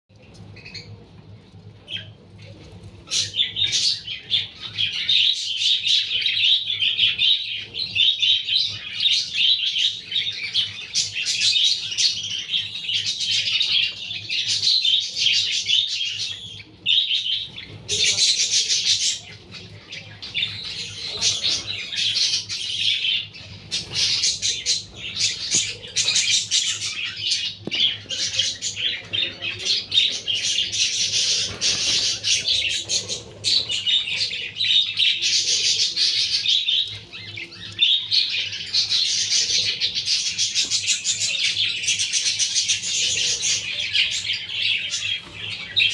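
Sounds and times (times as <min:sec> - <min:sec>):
nestlings chirping: 0:00.1 - 0:45.9.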